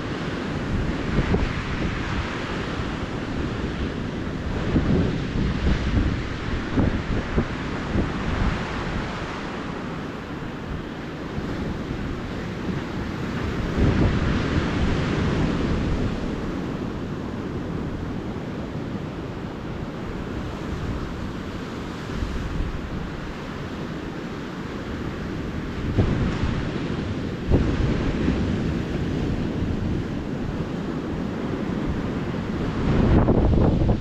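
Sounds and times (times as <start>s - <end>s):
ocean surf washing onto beach: 0.0s - 34.0s
wind rumbling on microphone: 0.0s - 34.0s.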